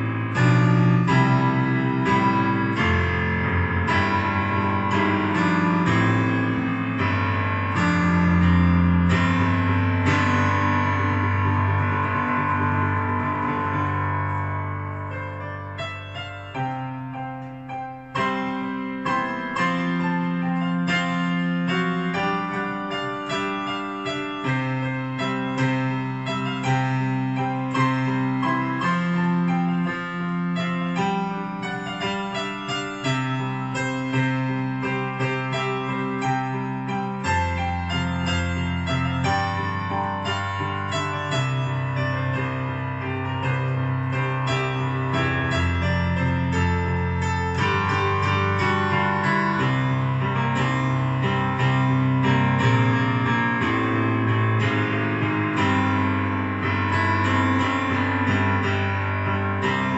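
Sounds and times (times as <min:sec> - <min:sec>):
electric piano keyboard chords: 0:00.0 - 0:59.9.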